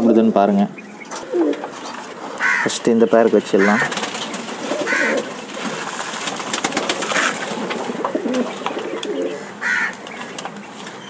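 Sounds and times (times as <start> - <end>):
pigeons cooing: 0.0 - 2.7, 3.3 - 11.0.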